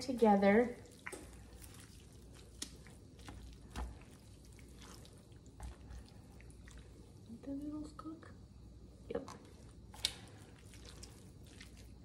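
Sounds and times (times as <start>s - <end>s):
wet squishing of food: 0.0s - 8.0s, 8.6s - 12.0s.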